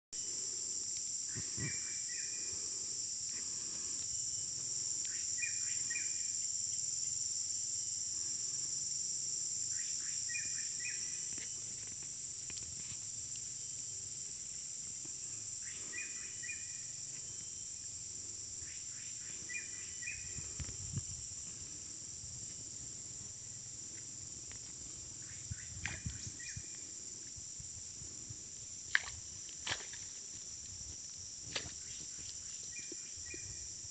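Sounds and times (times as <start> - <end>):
high-pitched insect chorus: 0.2 - 33.9.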